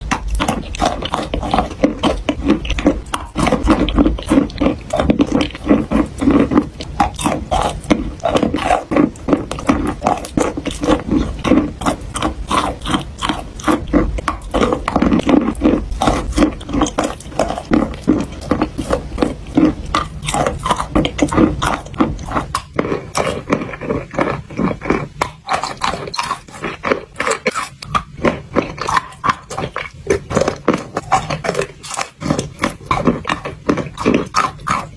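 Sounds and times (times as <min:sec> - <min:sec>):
dried clay crunching by hand: 0:00.0 - 0:34.9.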